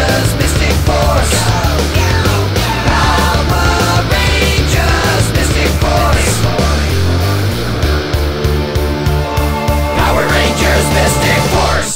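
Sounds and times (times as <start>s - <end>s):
heavy rock music: 0.0s - 11.9s.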